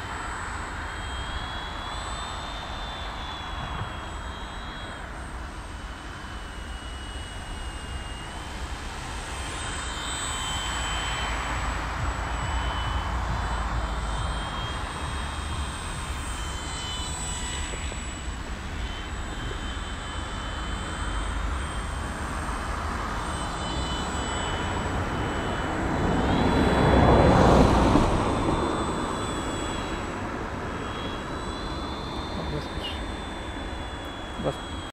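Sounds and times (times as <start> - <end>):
model airplane motor whining: 0.0 - 34.9.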